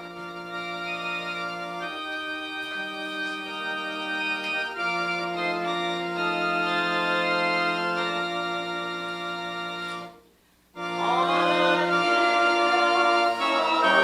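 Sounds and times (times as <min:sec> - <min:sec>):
organ playing hymn chords: 0:00.0 - 0:14.0.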